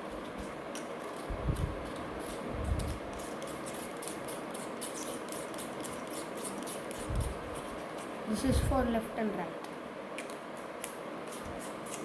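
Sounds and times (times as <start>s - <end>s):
fan-like hiss: 0.0s - 12.0s.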